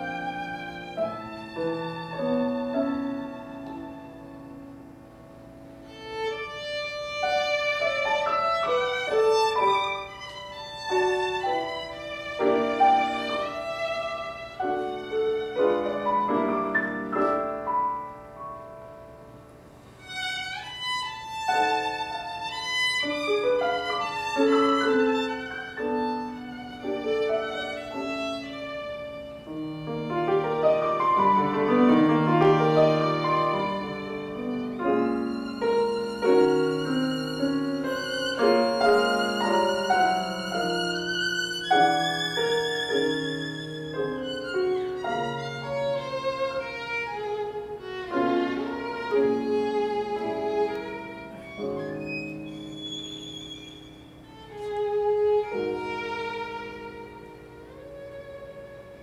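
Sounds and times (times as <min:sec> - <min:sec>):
piano accompaniment: 0:00.0 - 0:59.0
violin melody: 0:00.0 - 0:59.0.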